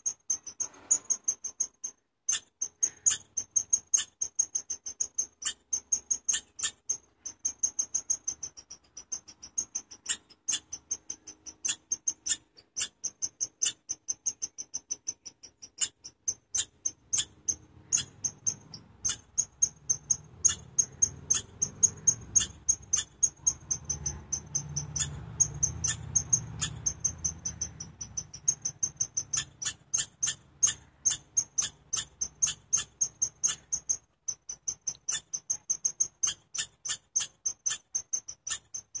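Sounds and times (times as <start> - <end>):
chipmunk chip calls: 0.0 - 39.0.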